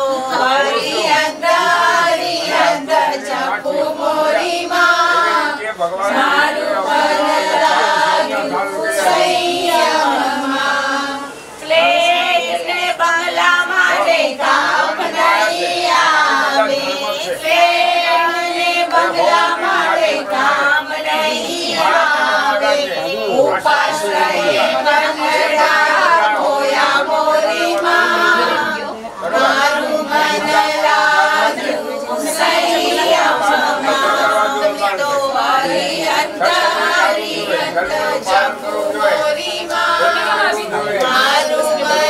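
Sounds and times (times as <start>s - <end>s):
women singing together: 0.0s - 42.0s.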